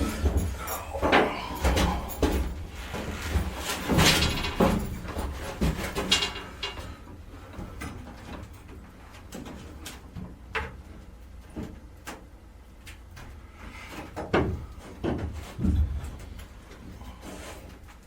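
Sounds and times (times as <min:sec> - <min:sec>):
knocks bumps and creaky scrapes: 0:00.0 - 0:12.1, 0:13.0 - 0:18.0.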